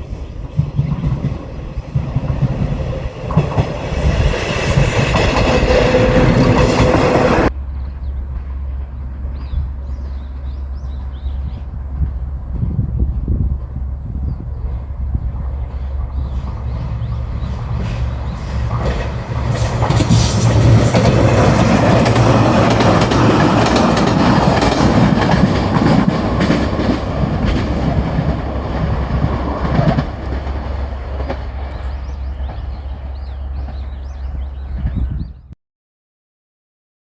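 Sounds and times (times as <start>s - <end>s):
wheels clattering over rail joints: 0.0s - 13.8s, 14.6s - 34.5s.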